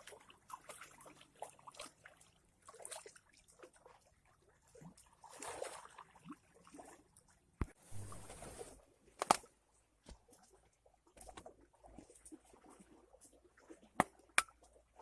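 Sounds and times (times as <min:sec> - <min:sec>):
lake water lapping and splashing: 0:00.0 - 0:15.0.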